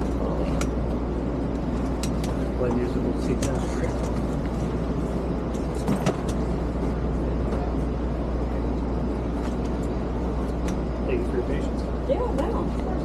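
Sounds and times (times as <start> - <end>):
train car hum and rumble: 0.0 - 13.0.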